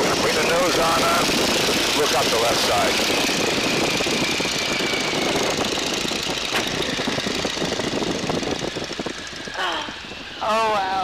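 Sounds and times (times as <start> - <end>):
biplane engine and propeller: 0.0 - 11.0
rushing wind: 0.0 - 11.0.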